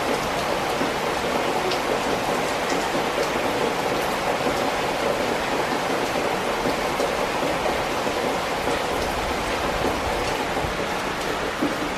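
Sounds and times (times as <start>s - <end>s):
raindrops tapping: 0.0s - 11.9s
steady rain falling: 0.0s - 11.9s.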